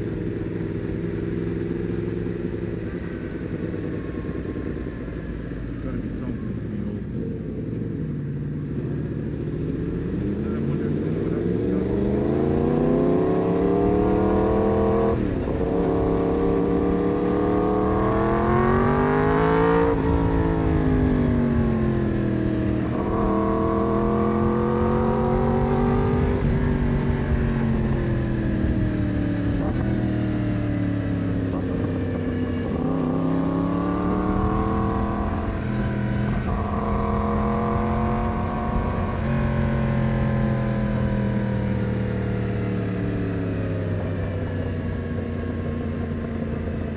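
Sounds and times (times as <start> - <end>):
motorcycle engine revving through gears: 0.0 - 46.9.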